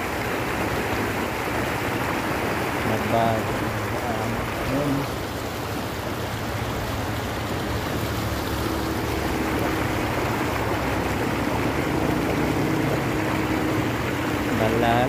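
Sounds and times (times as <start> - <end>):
faint engine hum: 0.0 - 15.0
river rushing over rocks: 0.0 - 15.0.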